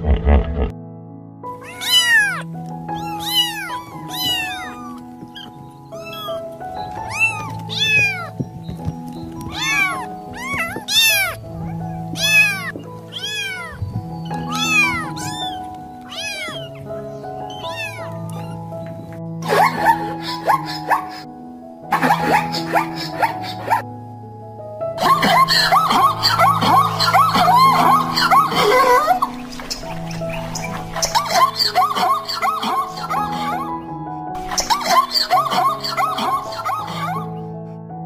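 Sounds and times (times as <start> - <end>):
background music: 0.0 - 38.0
cats meowing: 1.6 - 21.2, 25.0 - 33.8, 34.5 - 37.4.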